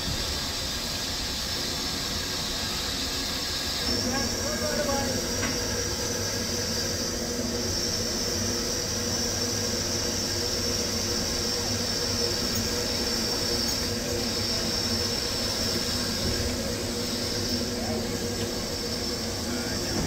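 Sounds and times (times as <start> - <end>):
steam hissing from locomotive: 0.0 - 20.0.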